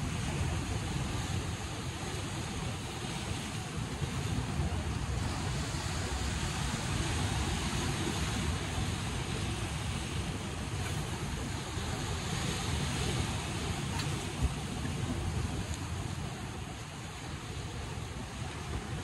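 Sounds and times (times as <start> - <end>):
surf washing against rocks: 0.0 - 19.0
wind rumbling on microphone: 0.0 - 19.0.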